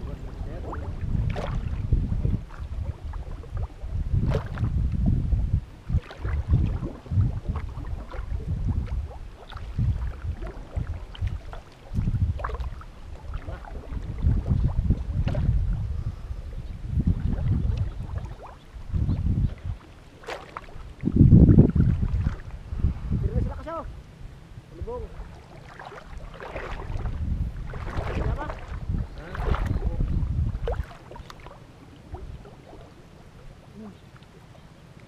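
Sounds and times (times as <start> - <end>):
water sloshing and splashing: 0.0 - 22.7, 24.8 - 35.0
wind gusts on microphone: 0.0 - 34.0.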